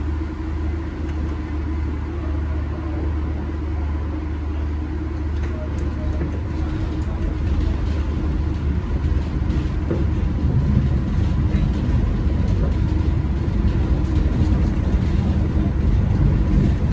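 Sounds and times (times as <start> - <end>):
subway train rumbling: 0.0 - 16.9.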